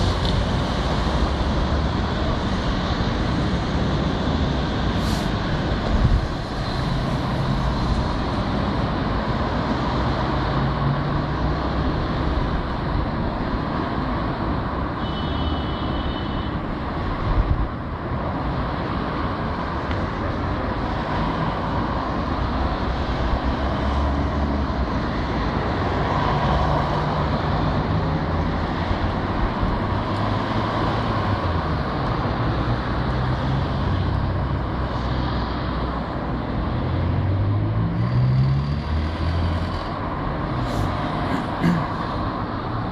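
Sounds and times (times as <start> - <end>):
road traffic: 0.0 - 42.9.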